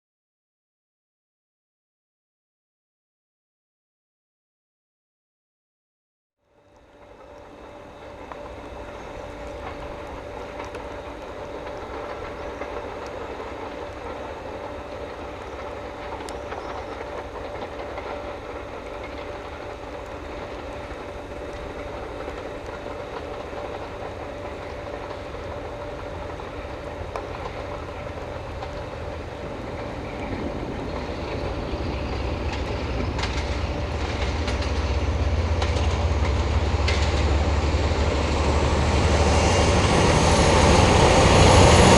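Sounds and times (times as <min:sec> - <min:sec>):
train rumble: 0:06.5 - 0:41.9.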